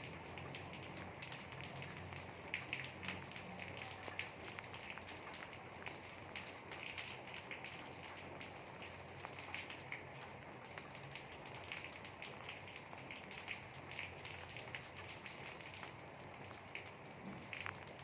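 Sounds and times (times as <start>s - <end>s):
rain drops splashing: 0.0s - 18.0s.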